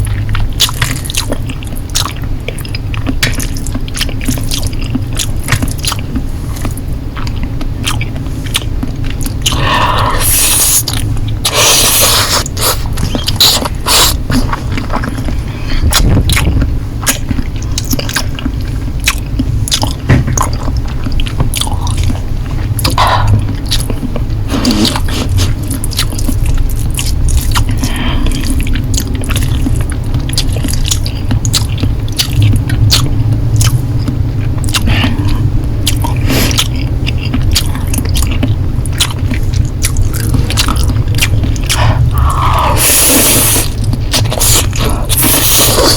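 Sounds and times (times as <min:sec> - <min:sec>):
chewing noodles: 0:00.0 - 0:45.9.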